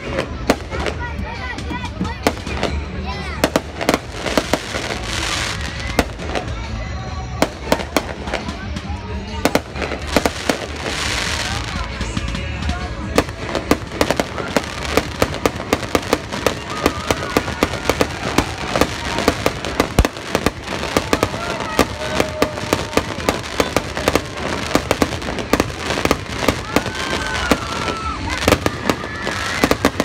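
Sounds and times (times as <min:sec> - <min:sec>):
fireworks popping and crackling: 0:00.0 - 0:30.0.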